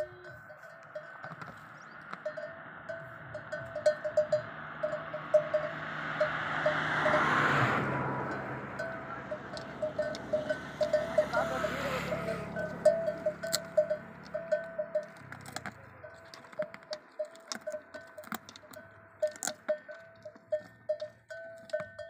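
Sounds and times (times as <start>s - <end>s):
animal bell clinking: 0.0s - 22.0s
camels crunching bones: 0.0s - 22.0s.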